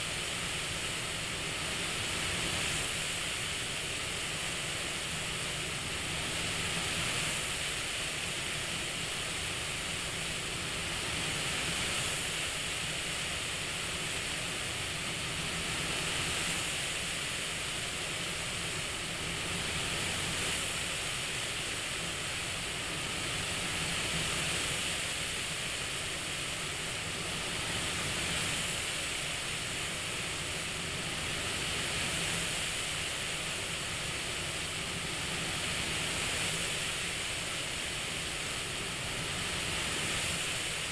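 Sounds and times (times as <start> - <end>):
airflow hiss: 0.0 - 40.9.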